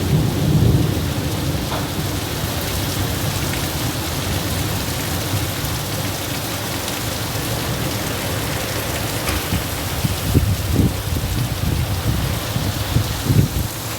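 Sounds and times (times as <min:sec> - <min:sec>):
rain: 0:00.0 - 0:13.9
strong wind: 0:00.0 - 0:13.9.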